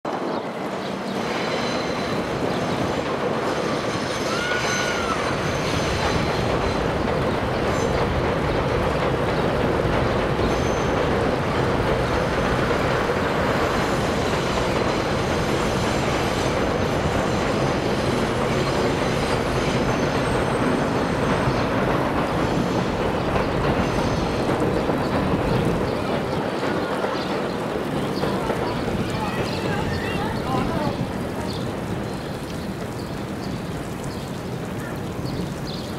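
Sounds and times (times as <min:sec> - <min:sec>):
train wheels rumbling on rail: 0:00.1 - 0:35.9.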